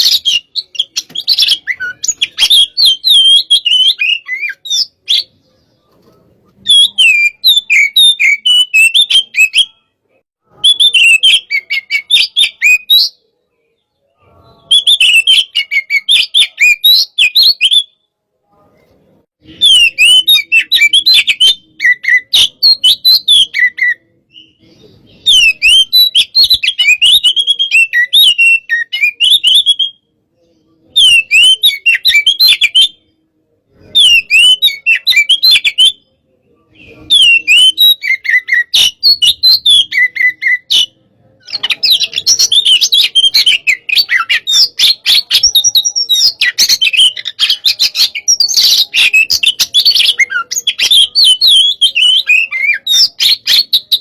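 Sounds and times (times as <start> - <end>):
bird whistled song: 0.0 - 5.8, 6.5 - 18.1, 19.4 - 33.2, 33.8 - 54.0.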